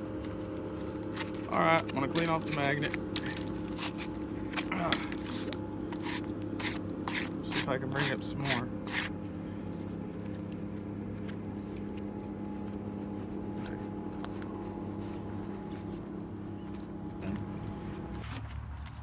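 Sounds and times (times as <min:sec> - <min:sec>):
low hum of held tones: 0:00.0 - 0:18.7.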